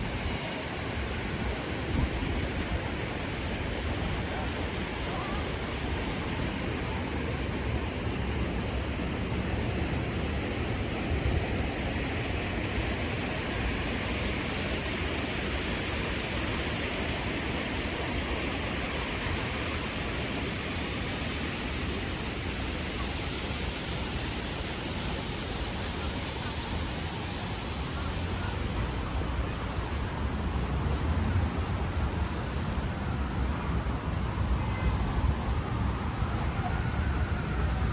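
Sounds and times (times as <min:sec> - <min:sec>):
traffic: 0:00.0 - 0:15.8, 0:21.8 - 0:37.9
gusty wind: 0:00.0 - 0:37.9.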